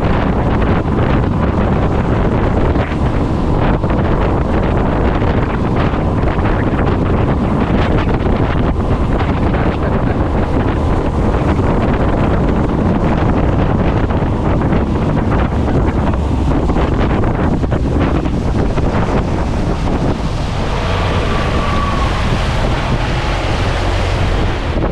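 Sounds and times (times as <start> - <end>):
water splashing and rushing: 0.0 - 24.9
wind buffeting microphone: 0.0 - 24.9.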